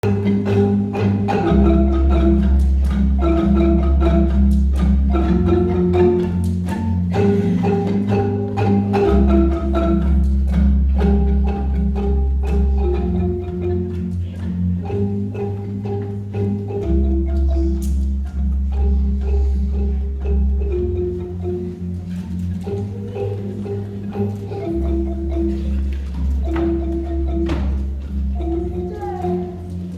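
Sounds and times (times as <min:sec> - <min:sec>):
low bass marimba notes: 0:00.0 - 0:29.9
quick marimba mallet strikes: 0:00.0 - 0:29.9.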